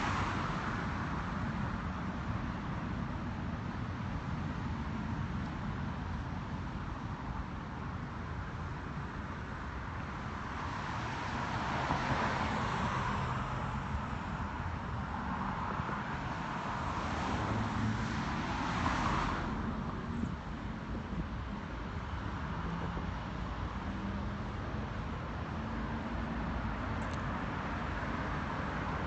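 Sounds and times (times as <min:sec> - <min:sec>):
cars passing: 0:00.0 - 0:29.0
low traffic rumble: 0:00.0 - 0:29.0.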